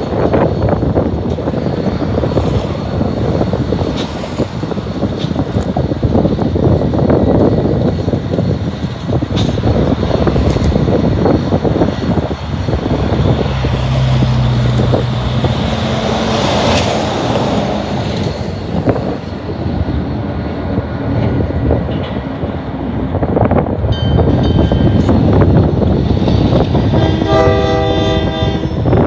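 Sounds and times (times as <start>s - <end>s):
diesel engine hum: 0.0s - 23.9s
passing train rumble: 0.0s - 29.0s.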